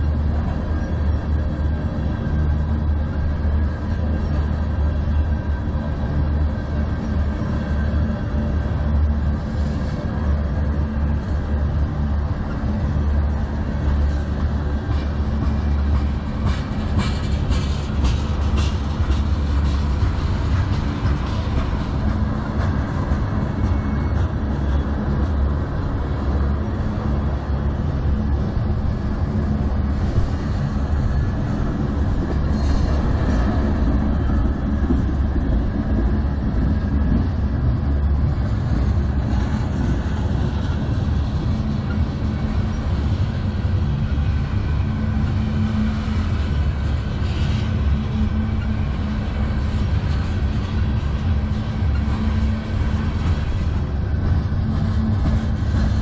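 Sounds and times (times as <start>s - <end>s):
freight train rumbling past: 0.0s - 56.0s
steel wheels clattering on rail: 0.0s - 56.0s.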